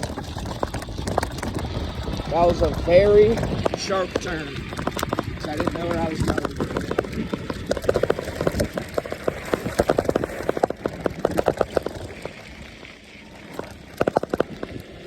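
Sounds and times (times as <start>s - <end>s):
bike rattling over bumps: 0.0s - 15.0s.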